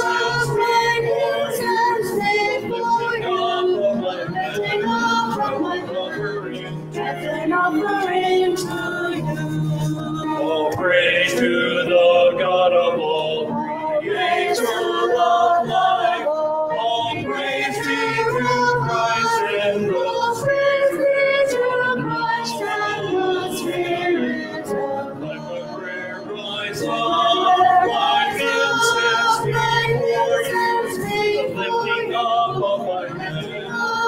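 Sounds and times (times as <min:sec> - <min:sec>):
congregation singing a hymn: 0:00.0 - 0:34.0.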